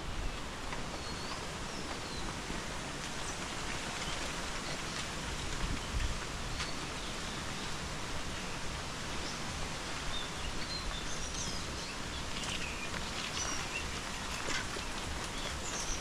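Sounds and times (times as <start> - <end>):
wind and rustle on microphone: 0.0 - 16.0.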